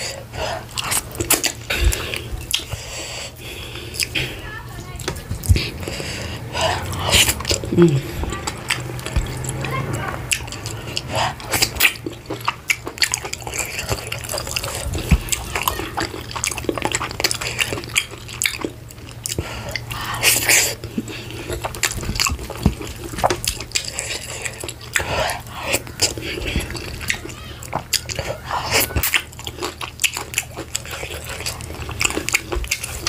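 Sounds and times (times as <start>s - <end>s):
wet chewing and lip-smacking: 0.0s - 33.0s.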